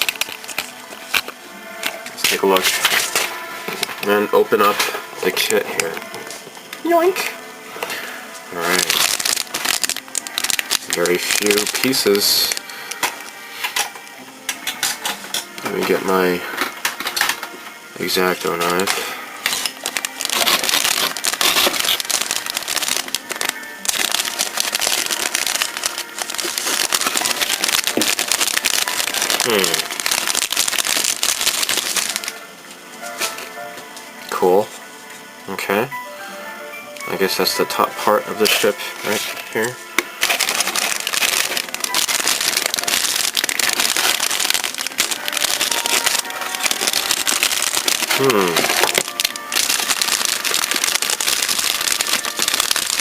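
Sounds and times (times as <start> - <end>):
plastic bag crinkling: 0.0 - 32.4, 38.4 - 53.0.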